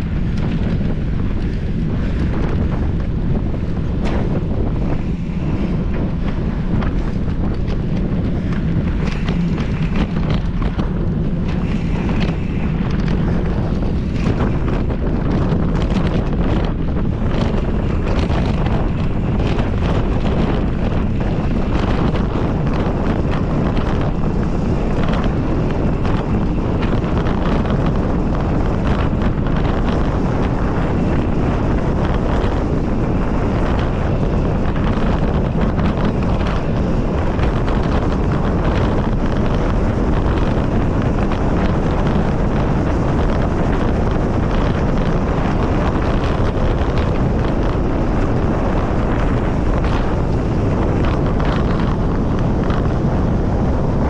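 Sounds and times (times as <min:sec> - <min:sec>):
bike knocking and rattling: 0:00.0 - 0:54.0
wind rushing over microphone: 0:00.0 - 0:54.0.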